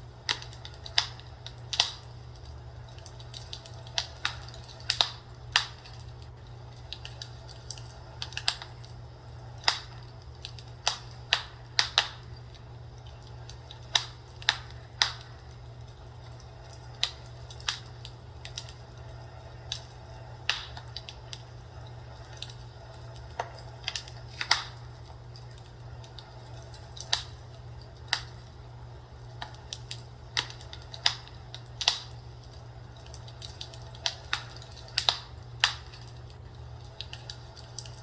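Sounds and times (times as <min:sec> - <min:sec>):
fireplace crackling: 0:00.0 - 0:38.0
steady low hum: 0:00.0 - 0:38.0.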